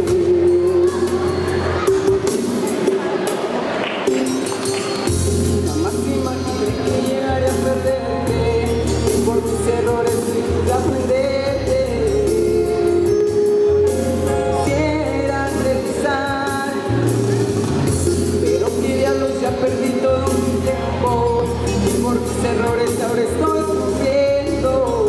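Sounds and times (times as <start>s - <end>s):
boy singing into a microphone: 0.0s - 2.6s, 5.6s - 25.0s
backing music with bass line: 0.0s - 25.0s.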